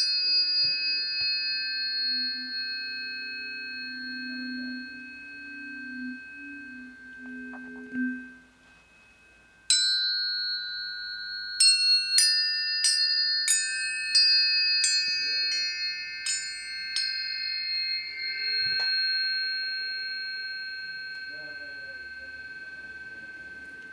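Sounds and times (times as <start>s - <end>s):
tuning forks ringing: 0.0s - 23.9s.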